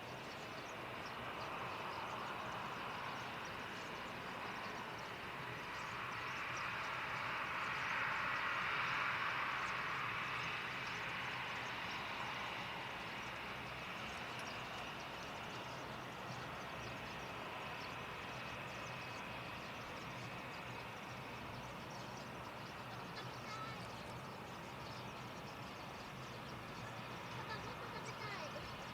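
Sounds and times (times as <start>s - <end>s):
jet airliner engine noise: 0.0s - 28.9s.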